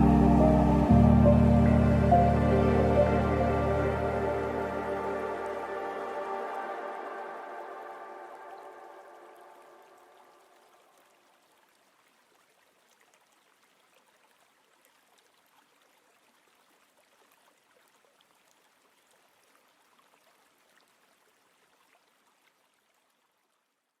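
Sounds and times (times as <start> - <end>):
river water flowing: 0.0 - 23.2.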